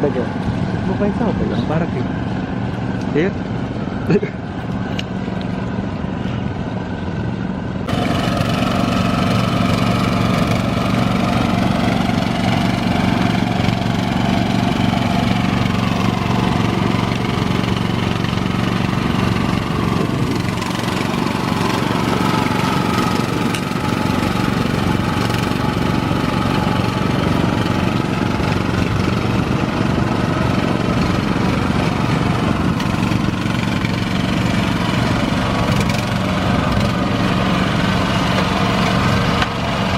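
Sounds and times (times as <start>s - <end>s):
small engine running: 7.8s - 39.9s.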